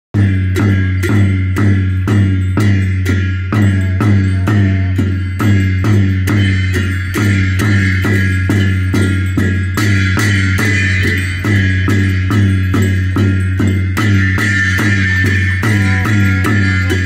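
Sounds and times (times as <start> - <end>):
bright ringing metal: 0.2 - 17.0
drum beating steady rhythm: 0.2 - 17.0.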